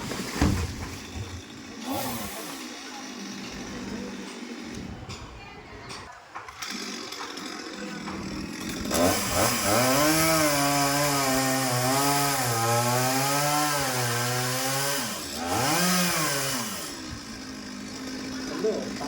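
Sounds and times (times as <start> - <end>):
chainsaw cutting wood: 0.0 - 4.8, 6.4 - 19.0.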